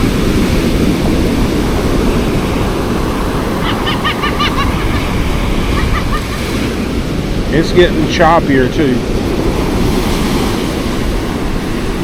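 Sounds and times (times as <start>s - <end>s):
ocean waves breaking: 0.0s - 12.0s
wind on microphone: 0.0s - 12.0s.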